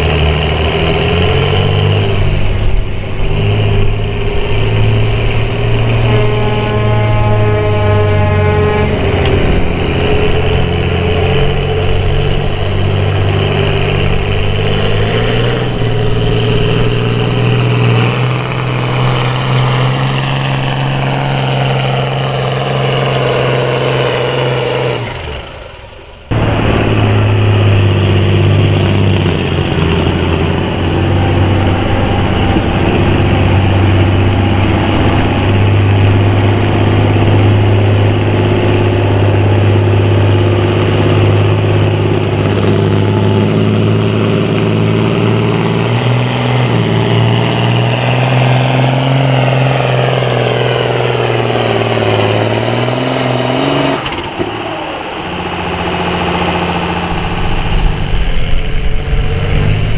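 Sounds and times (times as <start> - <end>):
tractor diesel engine running hard: 0.0 - 59.9.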